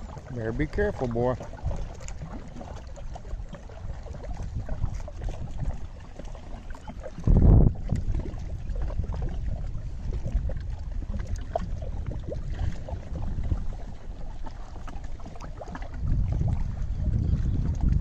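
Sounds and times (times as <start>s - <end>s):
waves lapping on rocky shore: 0.0s - 17.1s
wind rumbling on microphone: 0.0s - 18.0s.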